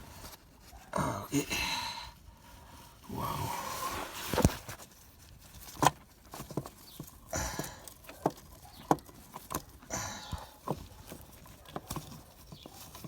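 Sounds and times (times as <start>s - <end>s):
scraping rustles: 0.0s - 1.0s, 2.4s - 13.0s.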